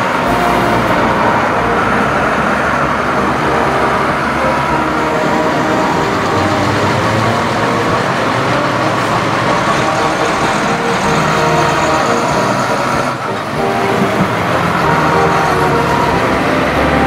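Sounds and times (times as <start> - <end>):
diesel farm machinery running: 0.0 - 17.0.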